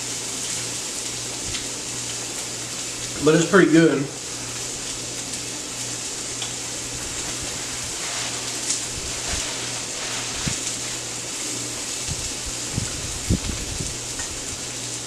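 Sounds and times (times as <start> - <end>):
chicken sizzling in a skillet: 0.0 - 15.0.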